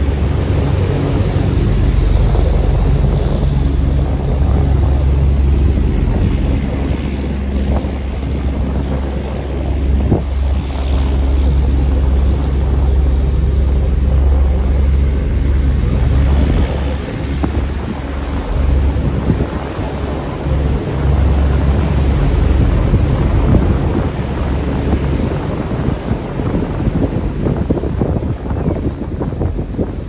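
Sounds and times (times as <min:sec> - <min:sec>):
boat engine droning: 0:00.0 - 0:30.0
wind on microphone: 0:00.0 - 0:30.0.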